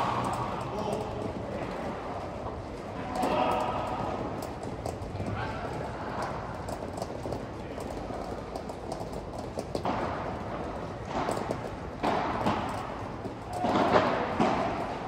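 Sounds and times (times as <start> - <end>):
balls and paddles knocking: 0.0 - 15.0.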